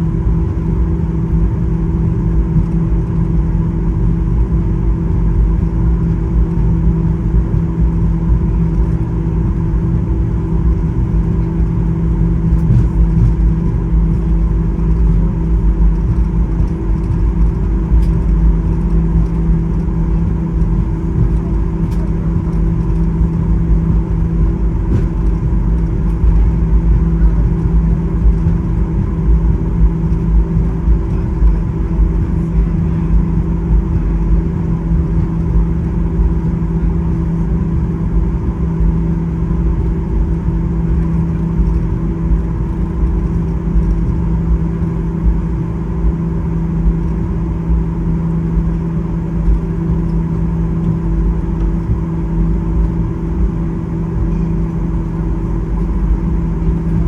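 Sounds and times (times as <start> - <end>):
aircraft cabin rumble: 0.0 - 57.0
idling jet engine hum: 0.0 - 57.0.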